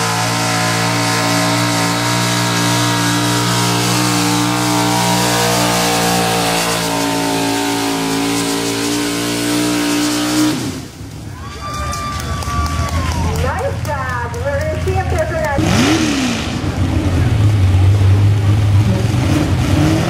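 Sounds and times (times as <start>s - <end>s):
truck engine at high revs: 0.0s - 11.2s, 13.4s - 20.0s.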